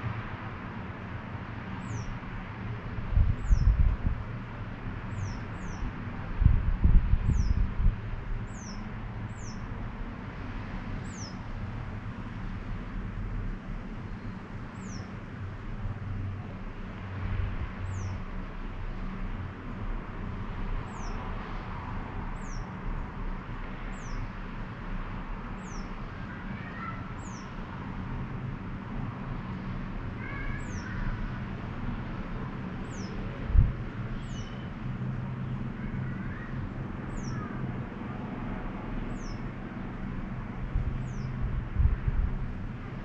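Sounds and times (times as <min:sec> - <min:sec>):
distant traffic rumble: 0:00.0 - 0:43.0.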